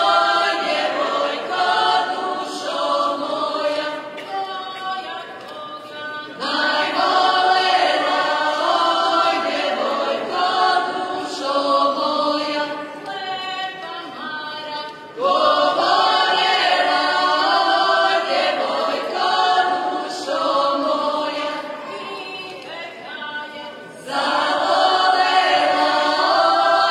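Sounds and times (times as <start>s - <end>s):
group singing unaccompanied: 0.0s - 26.9s.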